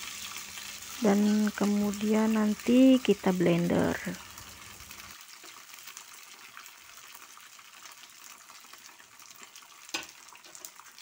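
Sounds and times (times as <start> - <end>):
peanuts sizzling in oil: 0.0 - 11.0.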